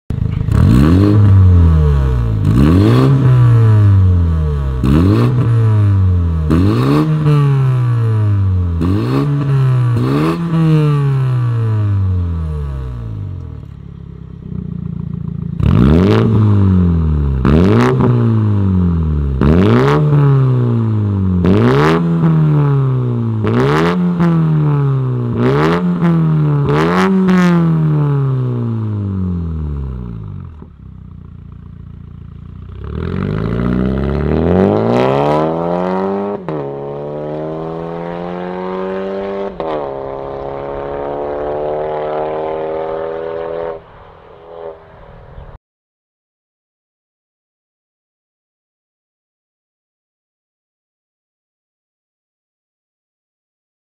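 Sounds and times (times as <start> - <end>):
car engine revving: 0.1 - 13.8, 14.4 - 30.7, 32.0 - 45.4.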